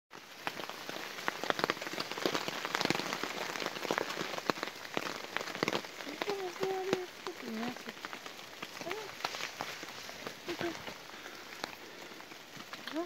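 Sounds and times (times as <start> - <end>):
rain hissing: 0.1 - 13.0
raindrops hitting close by: 0.1 - 13.0.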